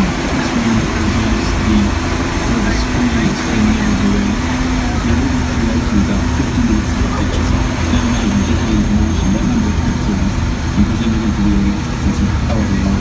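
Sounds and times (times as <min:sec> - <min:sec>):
low road rumble: 0:00.0 - 0:13.0
tram engine drone: 0:00.0 - 0:13.0.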